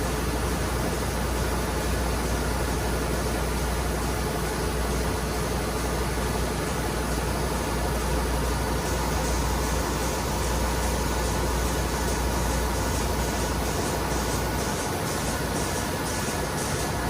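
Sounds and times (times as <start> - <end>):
engine room machinery hum: 0.0 - 17.0
ventilation hiss: 0.0 - 17.0.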